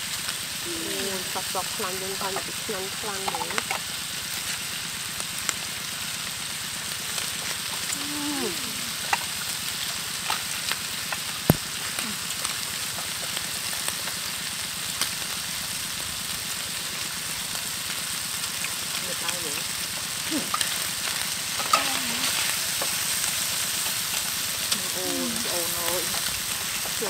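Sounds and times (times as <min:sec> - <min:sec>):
beef sizzling in a wok: 0:00.0 - 0:27.0.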